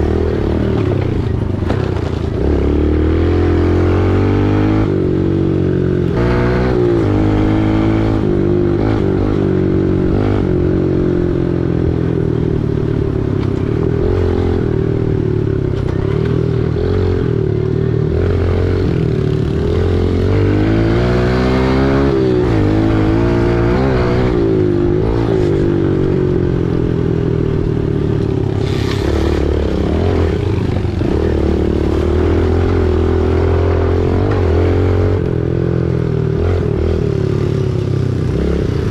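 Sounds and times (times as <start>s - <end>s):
dirt bike engine revving: 0.0s - 11.5s, 13.6s - 38.9s.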